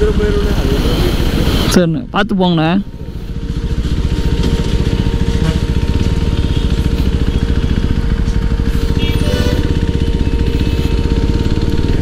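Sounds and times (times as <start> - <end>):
motorcycle engine running: 0.0 - 1.7, 2.4 - 12.0.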